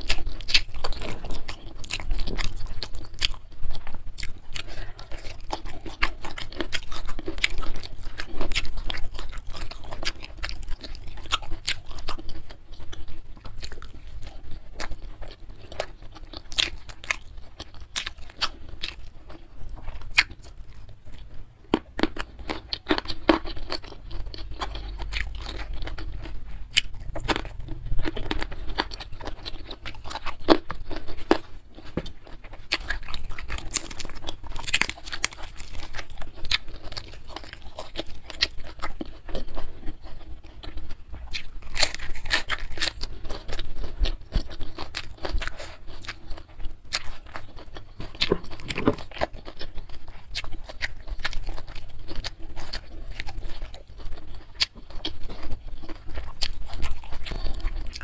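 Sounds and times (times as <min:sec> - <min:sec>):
chewing with sharp crunches: 0:00.0 - 0:58.0.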